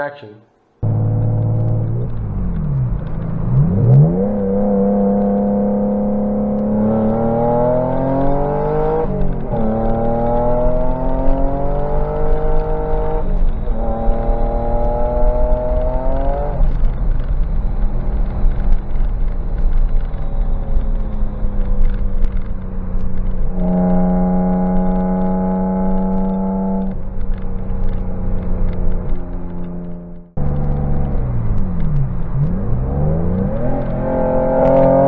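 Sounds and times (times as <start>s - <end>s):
car engine accelerating: 0.7s - 35.0s.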